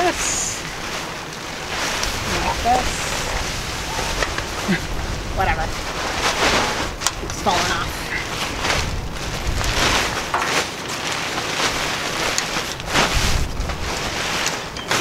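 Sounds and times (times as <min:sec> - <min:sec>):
wind buffeting microphone: 0:00.0 - 0:10.6, 0:11.3 - 0:14.8
nylon fabric rustling: 0:00.0 - 0:15.0.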